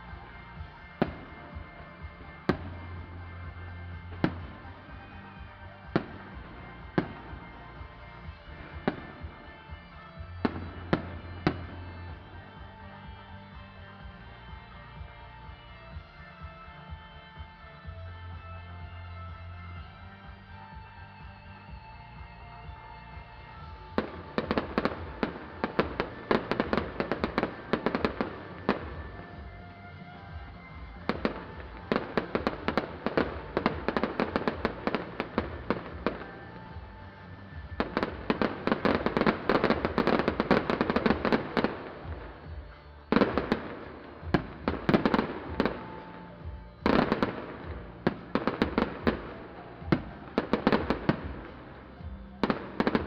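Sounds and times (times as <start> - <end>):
fireworks crackling and popping: 0.0 - 53.0
music with steady bass: 0.0 - 53.0.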